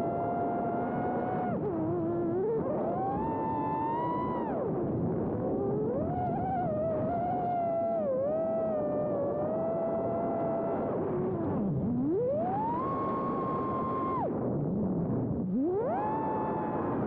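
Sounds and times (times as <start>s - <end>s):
drone motors whining: 0.0s - 14.6s, 15.3s - 17.0s.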